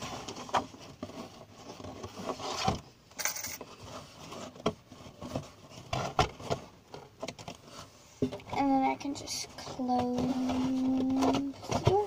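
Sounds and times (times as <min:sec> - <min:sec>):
hand rummaging in cardboard box: 0:00.0 - 0:12.0.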